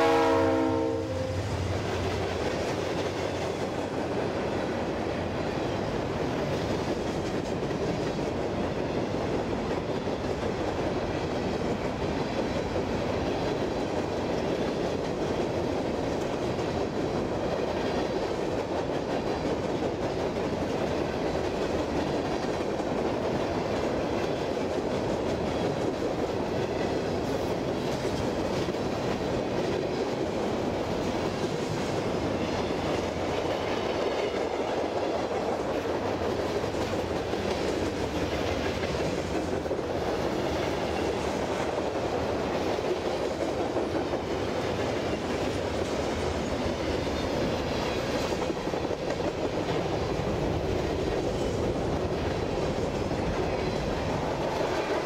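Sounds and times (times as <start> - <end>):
freight train rolling past: 0.0 - 55.0
wheels clickety-clack on rails: 1.1 - 55.0.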